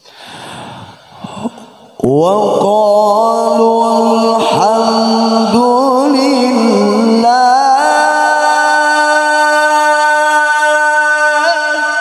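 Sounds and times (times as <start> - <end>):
man reciting melodically: 1.4 - 12.0.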